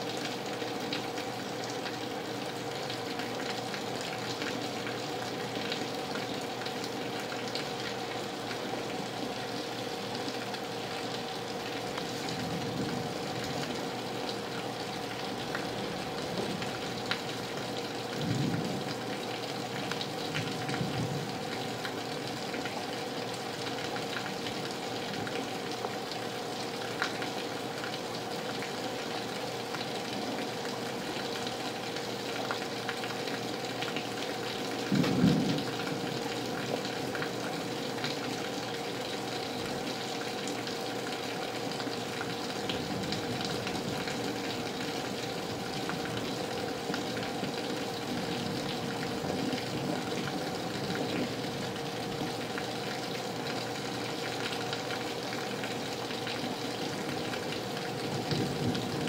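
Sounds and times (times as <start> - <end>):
drips from gutters: 0.0 - 59.0
heavy rain: 0.0 - 59.0.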